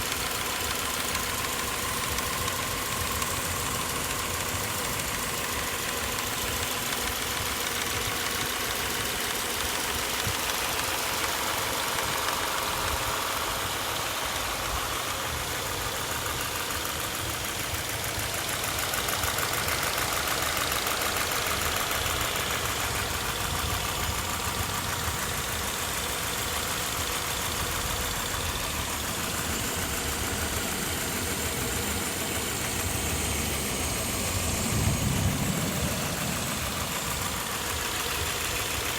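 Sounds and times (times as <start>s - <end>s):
car engine running with ticking: 0.0s - 38.9s.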